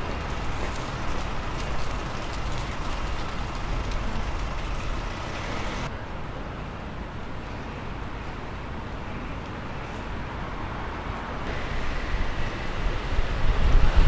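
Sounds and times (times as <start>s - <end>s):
hiss of city noise: 0.0s - 14.0s
rumble of passing vehicles: 0.0s - 14.0s.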